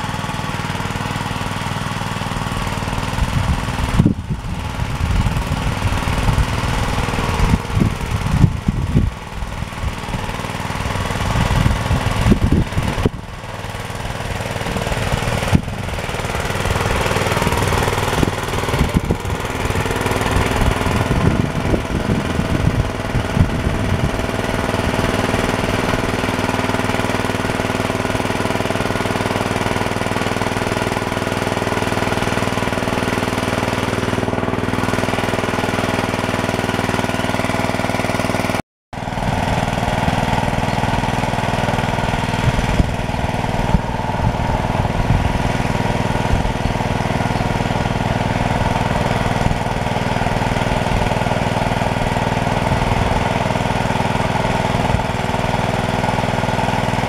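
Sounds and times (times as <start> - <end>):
small tractor engine running: 0.0 - 57.0.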